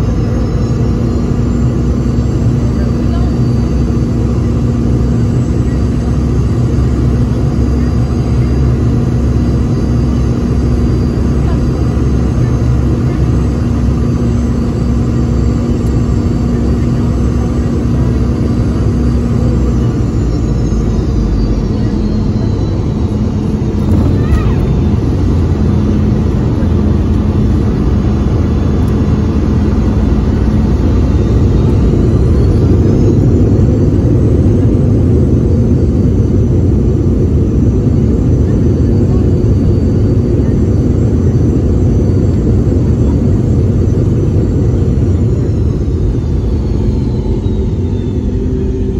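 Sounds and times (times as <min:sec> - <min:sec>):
jet engine rumble and whine: 0:00.0 - 0:48.9.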